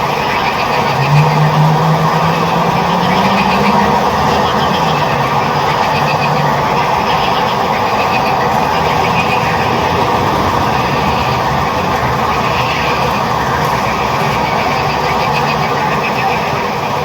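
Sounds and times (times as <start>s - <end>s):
frogs croaking: 0.0s - 17.0s.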